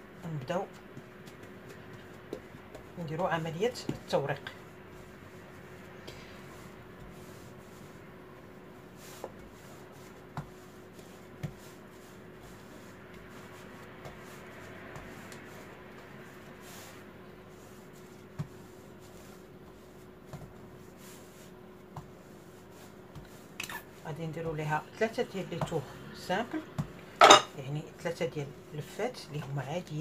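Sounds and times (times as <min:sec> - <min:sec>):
rolling pin rubbing on dough: 0:00.0 - 0:30.0.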